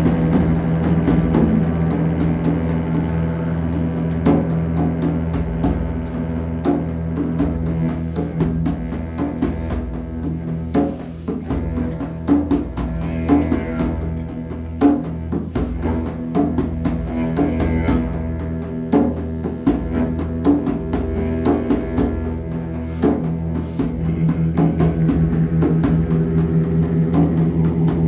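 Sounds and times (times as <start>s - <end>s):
didgeridoo drone: 0.0s - 28.0s
drums struck unevenly: 0.0s - 28.0s.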